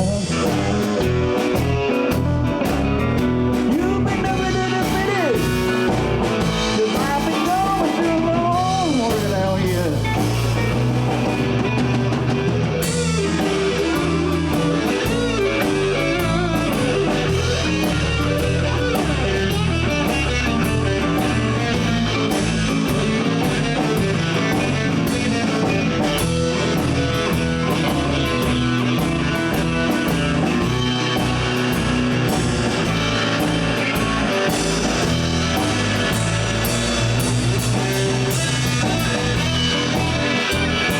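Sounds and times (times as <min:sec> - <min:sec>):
bass guitar: 0:00.0 - 0:40.9
drum kit with cymbals: 0:00.0 - 0:40.9
electric guitar lead: 0:00.0 - 0:40.9.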